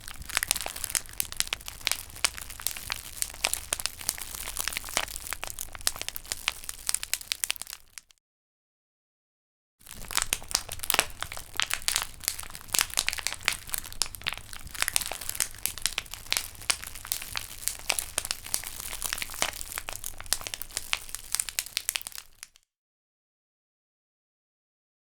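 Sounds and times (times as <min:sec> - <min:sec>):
plastic bottle crackling: 0:00.0 - 0:08.1, 0:09.8 - 0:22.6.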